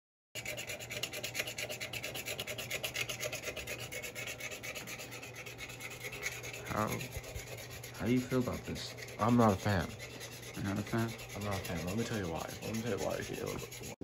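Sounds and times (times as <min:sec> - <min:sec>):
metal scrubber scraping glass: 0:00.4 - 0:14.0.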